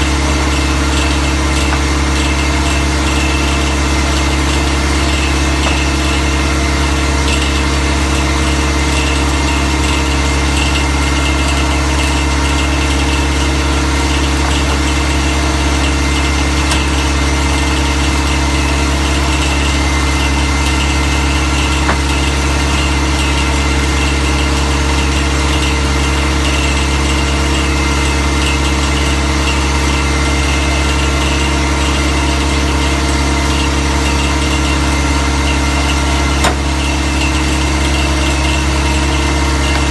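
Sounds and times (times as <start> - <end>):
drill rig engine drone: 0.0 - 39.9.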